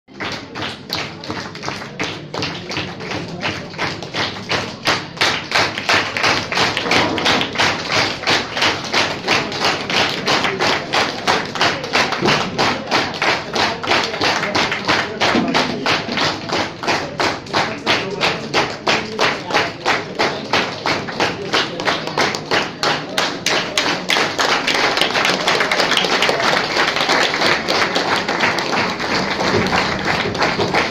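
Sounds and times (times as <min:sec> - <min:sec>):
audience clapping in unison: 0:00.1 - 0:30.9.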